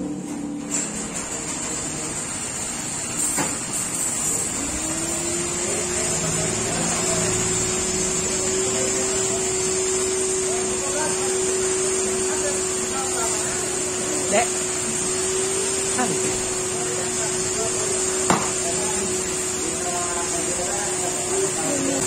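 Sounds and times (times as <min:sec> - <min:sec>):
motor humming: 0:00.0 - 0:22.0
car wash machinery hiss: 0:01.1 - 0:22.0.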